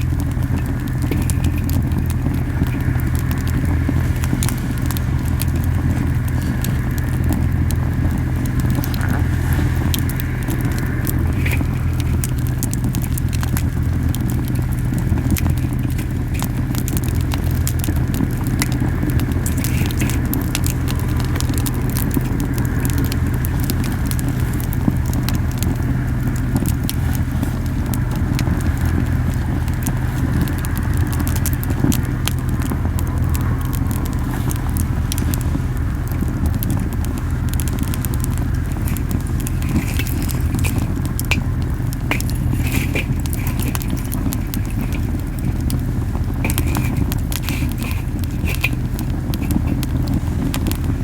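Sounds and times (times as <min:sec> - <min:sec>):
campfire flames rumbling: 0:00.0 - 0:51.0
fire popping and crackling: 0:00.0 - 0:51.0.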